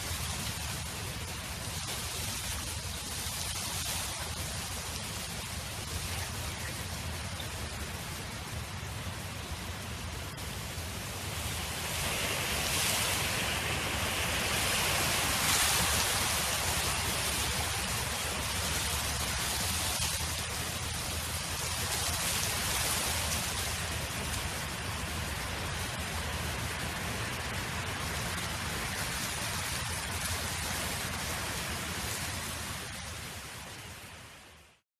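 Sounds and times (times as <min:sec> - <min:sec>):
wind blowing: 0:00.0 - 0:34.2.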